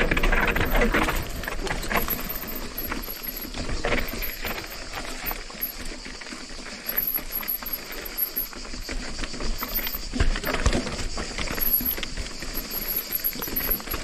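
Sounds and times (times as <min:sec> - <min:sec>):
bike knocking and rattling: 0:00.0 - 0:14.0
tyres crunching over stones: 0:00.0 - 0:14.0.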